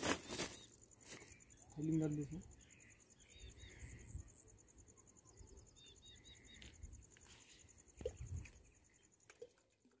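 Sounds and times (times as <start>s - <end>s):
pulsing insect trill: 0.0s - 9.7s.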